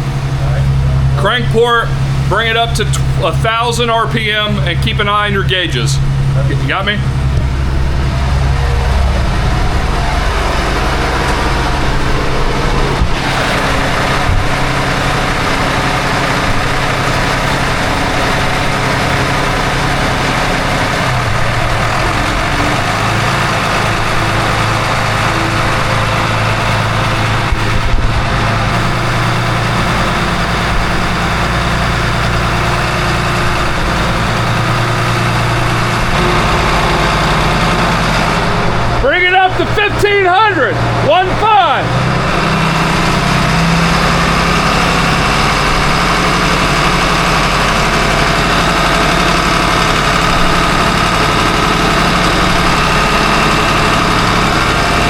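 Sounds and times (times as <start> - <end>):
marine diesel engines running: 0.0 - 55.0.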